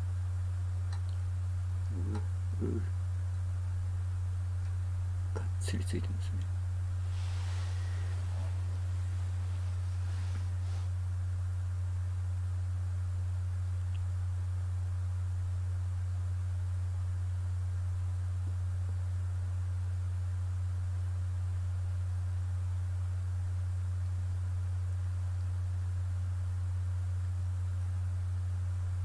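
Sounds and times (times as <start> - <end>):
loud steady low hum: 0.0 - 29.0.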